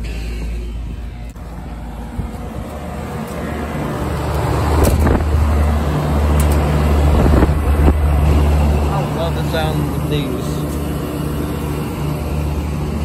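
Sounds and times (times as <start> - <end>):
compressor and fan humming: 0.0 - 13.0.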